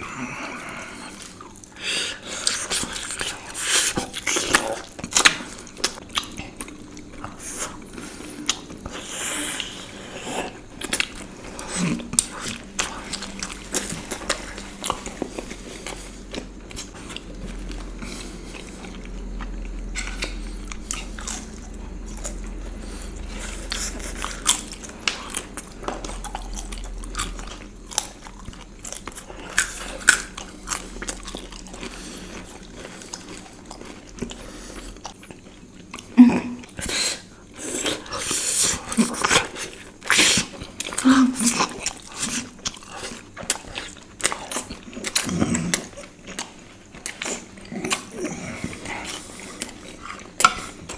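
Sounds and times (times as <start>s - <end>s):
close chewing and mouth smacks: 0.4s - 50.9s.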